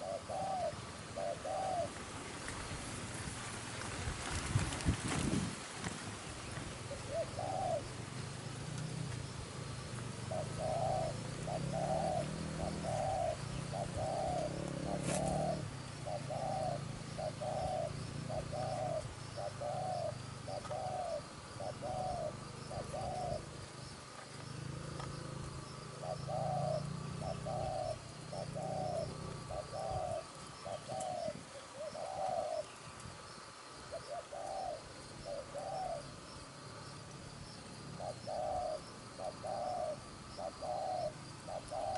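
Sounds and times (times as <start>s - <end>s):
doves calling: 0.0s - 41.9s.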